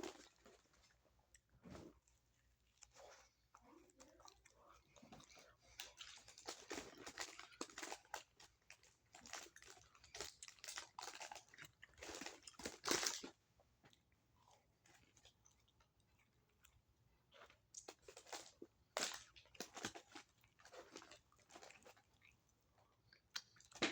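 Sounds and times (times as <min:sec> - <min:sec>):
person chewing a sandwich: 0:00.0 - 0:23.9.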